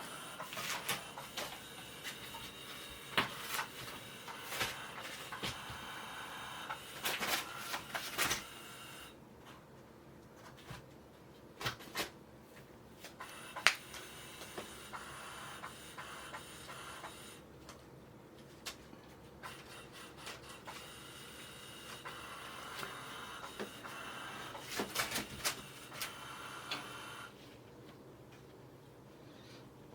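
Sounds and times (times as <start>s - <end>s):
steady background hum: 0.0s - 29.9s.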